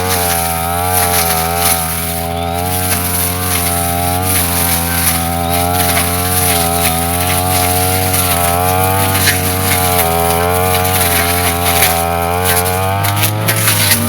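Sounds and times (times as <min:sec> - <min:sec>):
brush cutter engine at high revs: 0:00.0 - 0:14.0.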